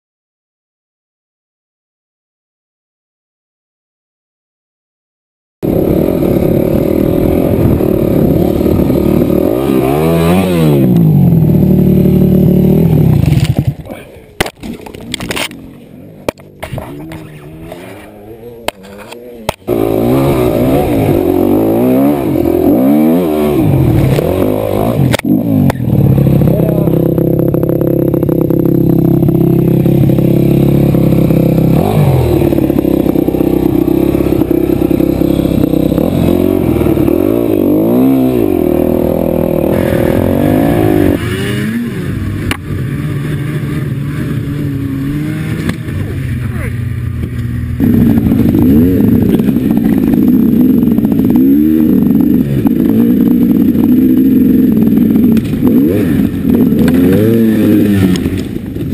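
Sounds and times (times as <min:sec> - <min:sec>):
dirt bike engine revving: 0:05.6 - 0:58.9
snowmobile engine running: 0:05.6 - 0:58.9.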